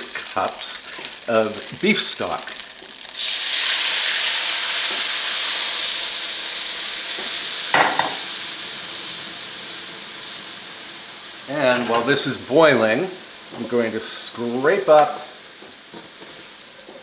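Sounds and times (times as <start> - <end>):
stock sizzling in hot pan: 0.0 - 17.0.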